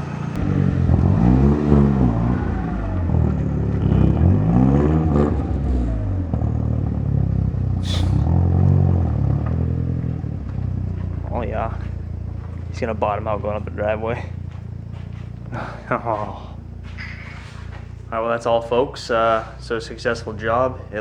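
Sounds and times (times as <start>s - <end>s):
car engine revving while driving off: 0.0s - 18.2s
exhaust low rumble: 0.0s - 21.0s.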